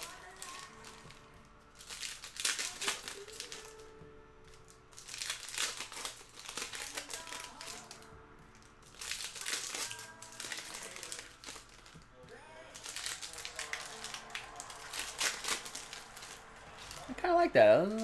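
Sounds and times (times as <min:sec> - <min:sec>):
faint singing: 0:00.0 - 0:04.9, 0:06.1 - 0:18.0
card pack wrappers crinkling: 0:00.0 - 0:18.0.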